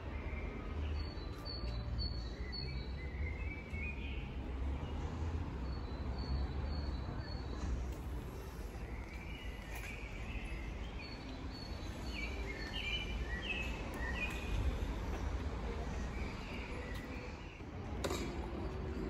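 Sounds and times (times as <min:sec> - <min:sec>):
low rumble of street noise: 0:00.0 - 0:19.0.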